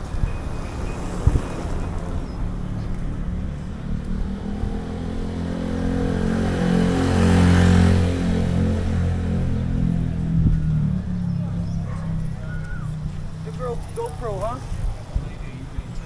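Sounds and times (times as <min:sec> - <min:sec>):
street noise: 0:00.0 - 0:16.0
vehicle engine passing by: 0:00.0 - 0:16.0.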